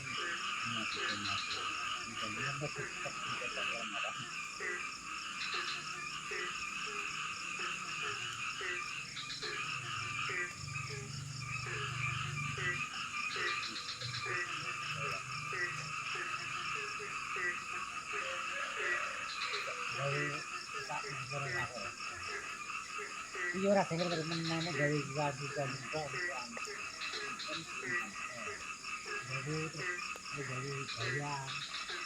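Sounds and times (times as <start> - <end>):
frog croaks: 0.0 - 32.0
high-pitched frog chorus: 0.0 - 32.0.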